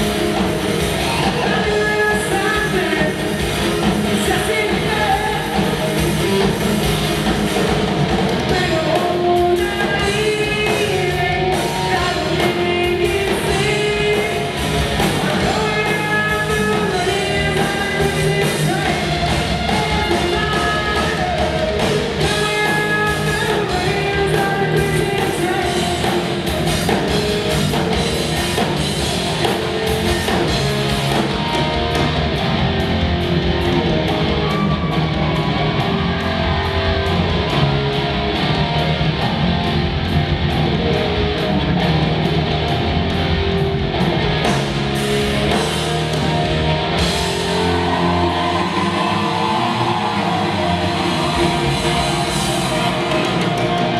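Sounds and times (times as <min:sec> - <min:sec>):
bass guitar: 0:00.0 - 0:53.9
distorted electric guitars: 0:00.0 - 0:53.9
drums: 0:00.0 - 0:53.9.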